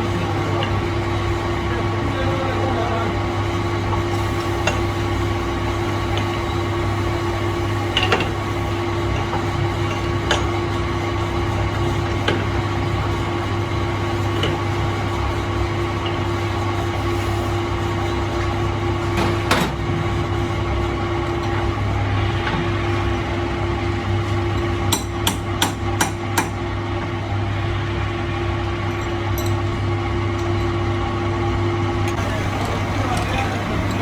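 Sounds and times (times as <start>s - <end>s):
workshop machine humming: 0.0s - 30.4s, 32.0s - 34.0s.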